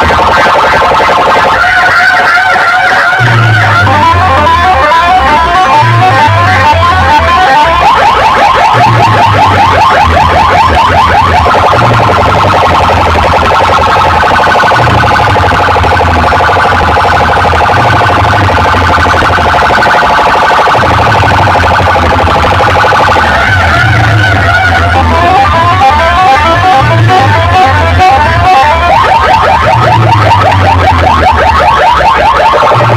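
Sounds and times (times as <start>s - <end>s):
electronic warbling alarm tone: 0.0s - 32.9s
pulsing bass line: 0.0s - 32.9s.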